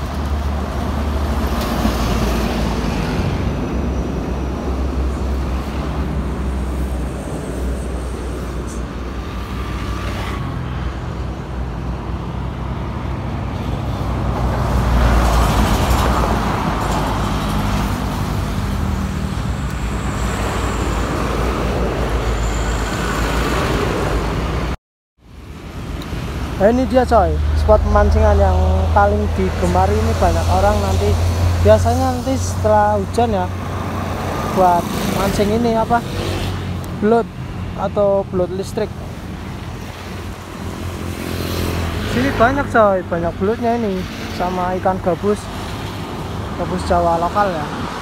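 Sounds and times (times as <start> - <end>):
highway traffic rumble: 0.0 - 48.0.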